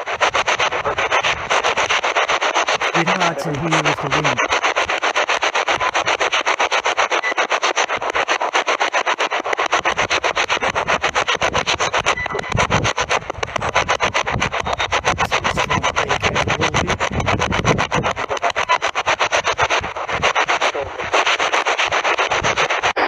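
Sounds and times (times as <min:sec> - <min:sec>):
wind buffeting microphone: 0:00.0 - 0:07.0, 0:09.5 - 0:23.0
spirit box static bursts: 0:00.0 - 0:23.0.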